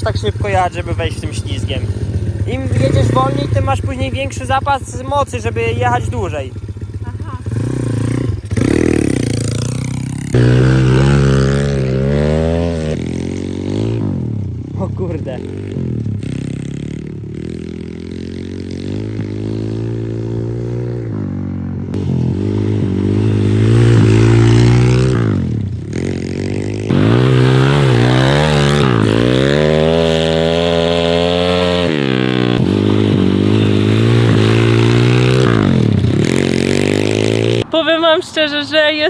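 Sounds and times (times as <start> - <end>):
pitbike engine revving: 0.0 - 37.7.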